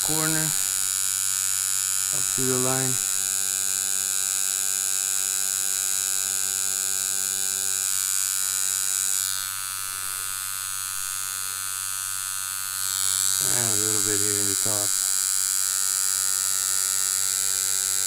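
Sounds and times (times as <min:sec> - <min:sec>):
tattoo machine buzzing: 0:00.0 - 0:18.0.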